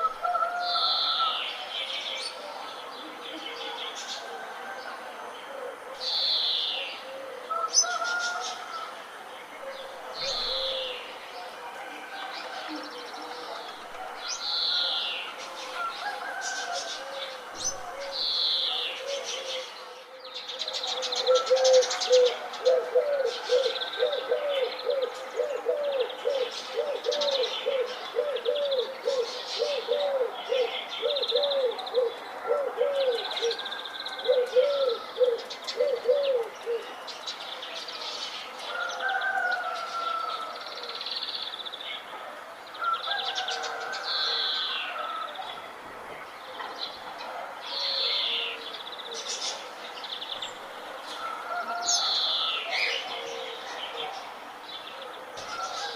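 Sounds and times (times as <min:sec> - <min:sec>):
birds chirping and singing: 0:00.0 - 0:55.9.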